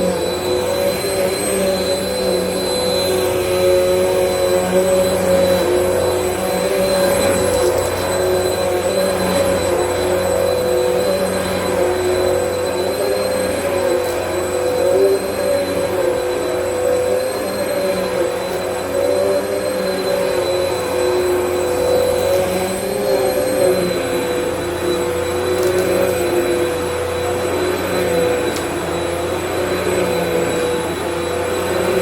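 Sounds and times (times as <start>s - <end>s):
vacuum cleaner motor whine: 0.0s - 32.0s.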